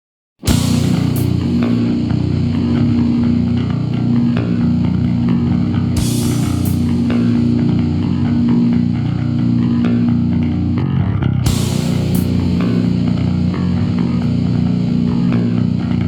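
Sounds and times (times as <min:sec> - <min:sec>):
cymbal crashes: 0:00.4 - 0:10.5, 0:11.4 - 0:15.6
death metal music: 0:00.4 - 0:16.0.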